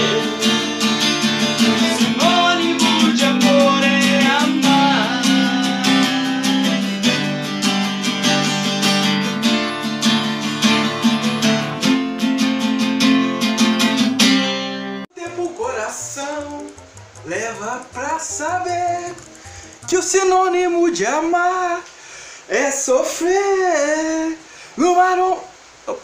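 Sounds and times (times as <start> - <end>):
acoustic guitar strumming: 0.0 - 21.8.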